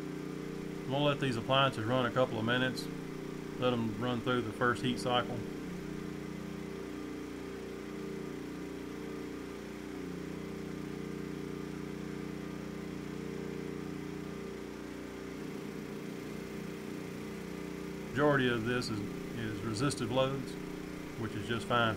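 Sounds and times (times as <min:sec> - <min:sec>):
generator engine running: 0:00.0 - 0:21.9.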